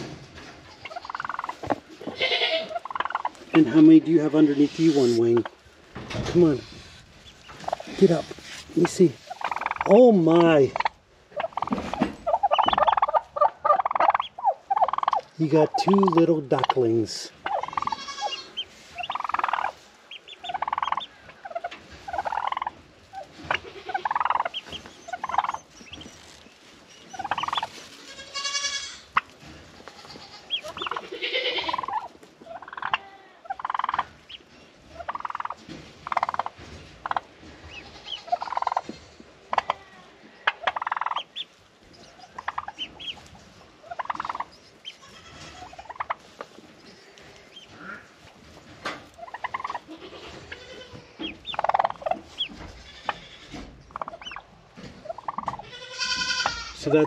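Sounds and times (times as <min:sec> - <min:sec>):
turkey hens calling: 0:00.0 - 0:57.0.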